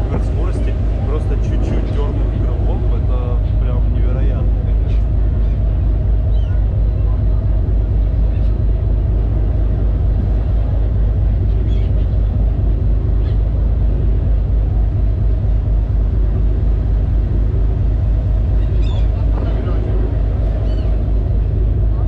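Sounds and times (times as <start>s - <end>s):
ferry engine rumble: 0.0s - 22.0s
wind: 0.0s - 22.0s.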